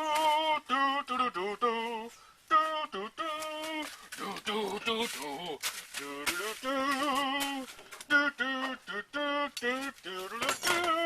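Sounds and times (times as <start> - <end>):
man singing wordless tune: 0.0 - 11.0.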